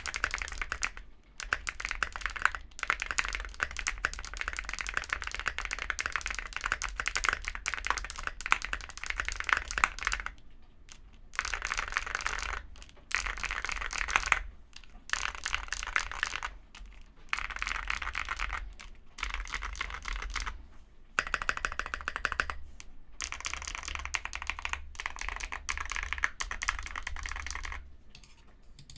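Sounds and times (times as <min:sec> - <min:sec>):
mechanical keyboard typing: 0:00.0 - 0:20.6, 0:21.2 - 0:28.9.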